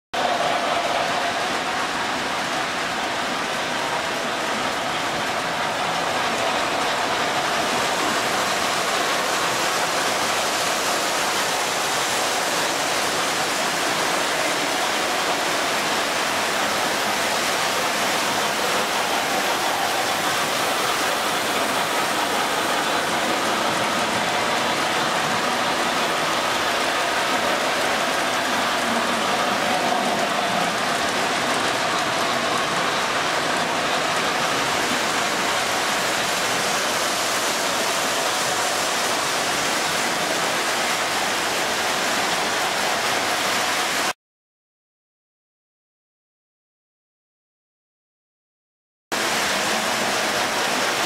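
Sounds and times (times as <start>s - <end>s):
model trains rolling on track: 0.2s - 44.1s, 49.2s - 51.0s.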